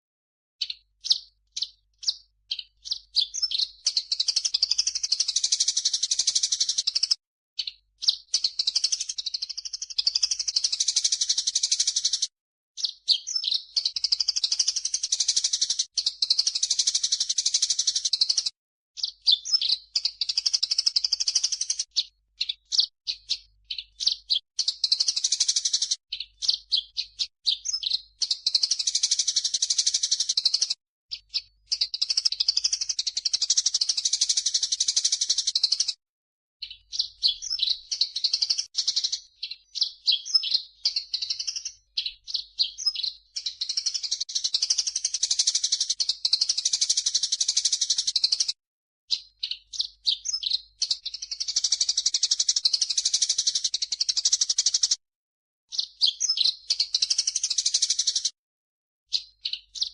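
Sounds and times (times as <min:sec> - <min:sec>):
sparrow chirps: 0:00.6 - 0:36.0, 0:36.6 - 0:55.0, 0:55.7 - 0:58.4, 0:59.1 - 0:59.9.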